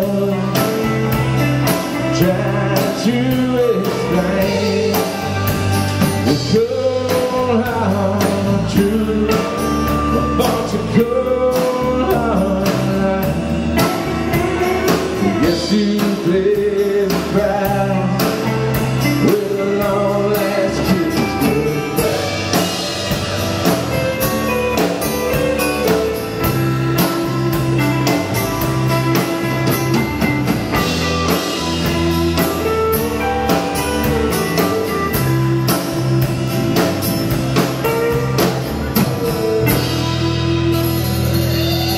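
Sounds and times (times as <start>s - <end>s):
country rock band playing: 0.0s - 41.9s.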